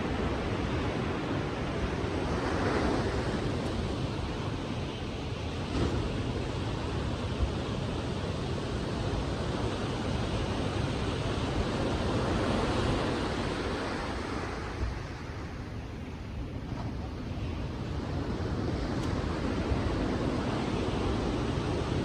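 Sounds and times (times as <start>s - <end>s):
sea waves washing onto beach: 0.0s - 22.0s.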